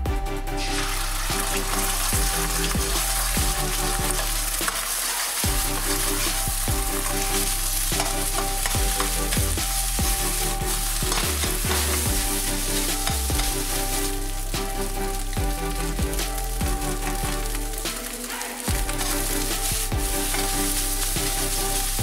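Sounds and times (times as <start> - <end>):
egg and rice sizzling in oil: 0.6 - 22.0
metal ladle scraping a wok: 0.6 - 22.0.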